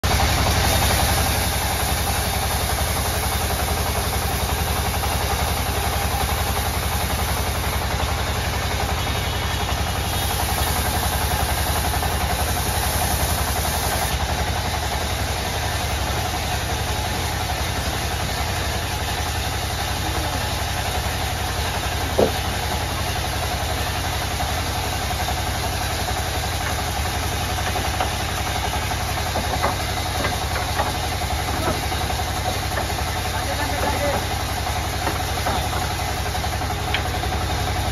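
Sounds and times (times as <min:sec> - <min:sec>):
band saw cutting log: 0:00.0 - 0:37.9.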